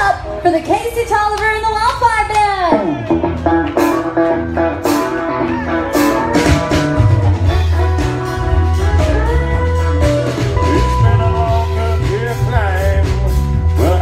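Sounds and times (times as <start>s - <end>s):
live country band playing: 0.0s - 14.0s.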